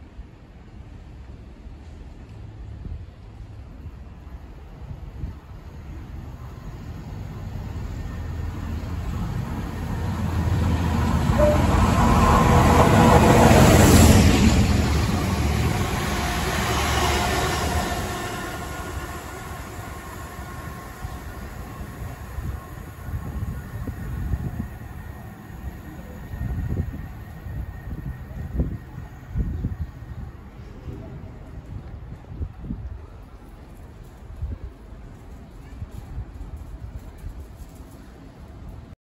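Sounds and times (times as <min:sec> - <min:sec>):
train passing at speed: 0:00.0 - 0:39.0.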